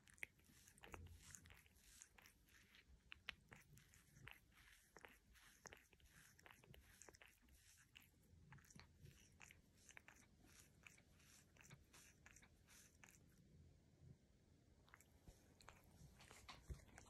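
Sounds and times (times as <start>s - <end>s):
cat licking its fur: 0.0s - 13.6s, 14.8s - 17.0s.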